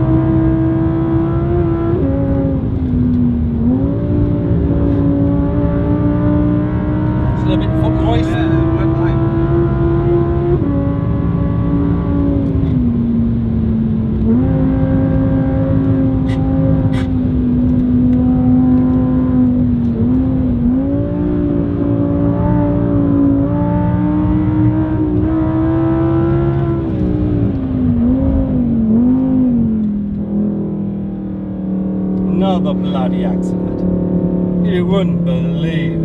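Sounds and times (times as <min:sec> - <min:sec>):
car engine at speed: 0:00.0 - 0:36.0
road and tyre noise: 0:00.0 - 0:36.0.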